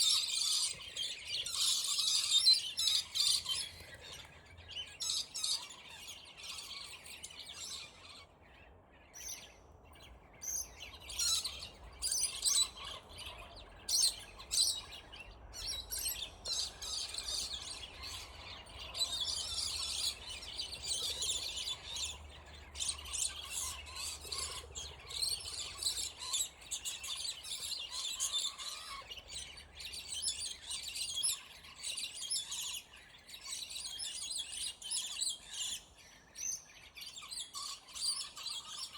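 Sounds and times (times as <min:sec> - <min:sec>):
lorikeets shrill chattering: 0:00.0 - 0:03.8, 0:10.4 - 0:38.9.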